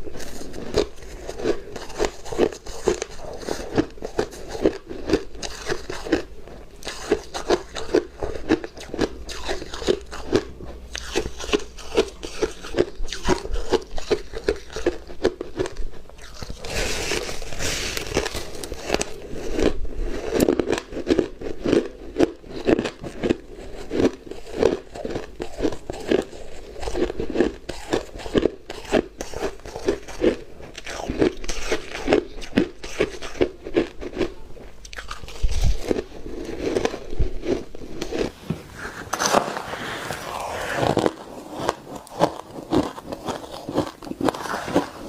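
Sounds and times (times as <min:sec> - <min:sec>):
person chewing crunchy ice: 0:00.0 - 0:38.4, 0:39.2 - 0:45.0.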